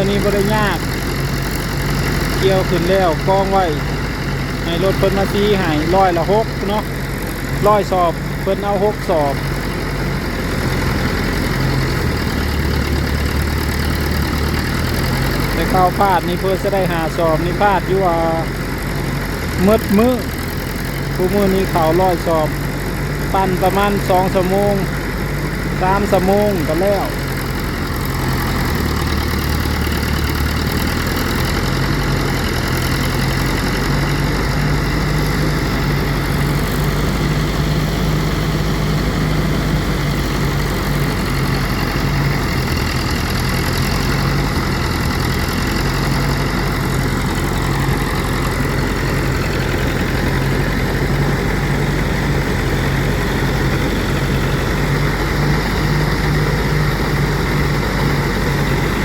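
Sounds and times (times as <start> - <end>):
threshing machine motor humming: 0.0 - 59.0.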